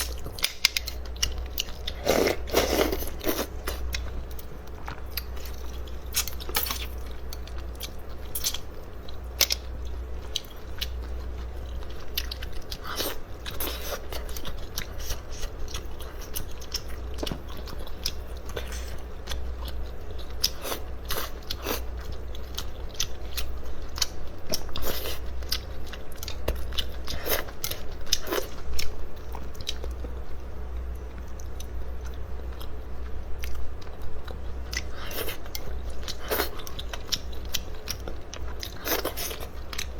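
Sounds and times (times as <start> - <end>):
person chewing crunchy food: 0.0 - 39.9
steady low hum: 0.0 - 39.9.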